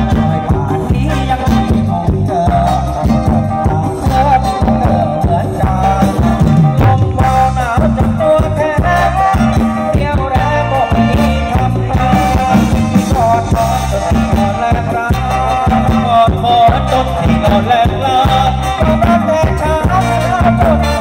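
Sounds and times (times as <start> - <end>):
live band over loudspeakers: 0.0 - 21.0
person singing: 0.0 - 21.0.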